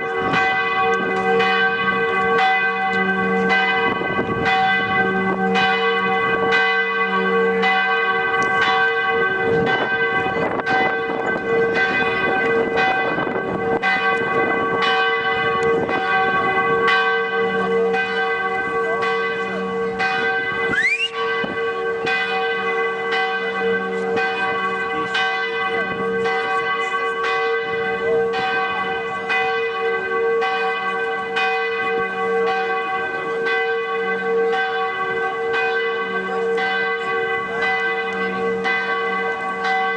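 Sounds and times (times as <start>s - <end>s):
church bells ringing a peal: 0.0s - 39.9s.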